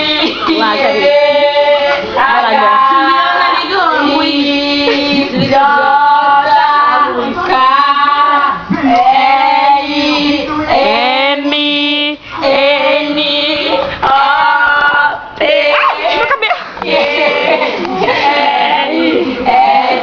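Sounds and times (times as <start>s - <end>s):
girls singing into a fan: 0.0s - 20.0s.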